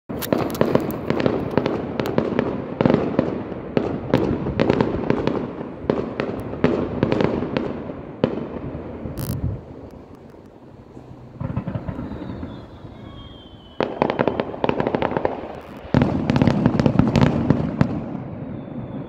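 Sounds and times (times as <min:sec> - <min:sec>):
fireworks bursting: 0:00.1 - 0:19.0.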